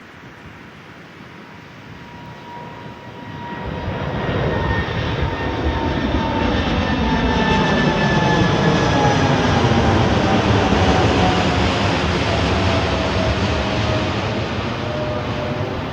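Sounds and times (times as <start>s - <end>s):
airplane flying low overhead: 0.1s - 15.9s.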